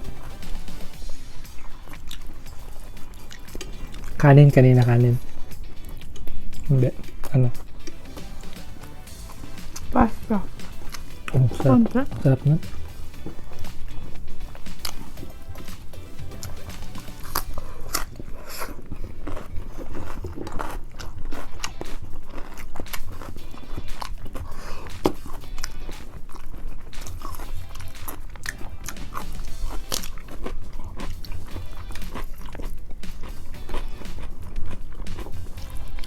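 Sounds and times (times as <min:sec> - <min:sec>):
background music: 0:00.0 - 0:36.0
crunching and chewing: 0:00.0 - 0:36.0.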